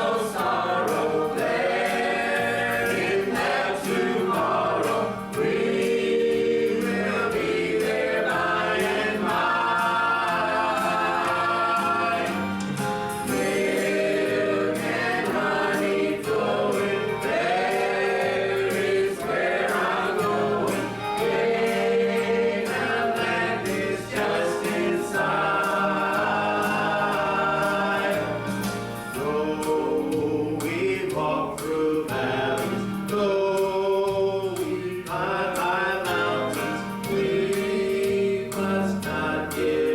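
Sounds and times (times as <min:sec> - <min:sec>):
group singing a gospel hymn: 0:00.0 - 0:39.9
low steady accompaniment: 0:00.0 - 0:39.9.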